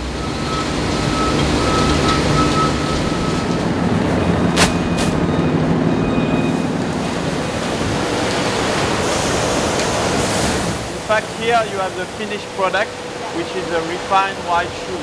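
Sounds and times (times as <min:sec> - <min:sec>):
loud machinery noise: 0:00.0 - 0:15.0.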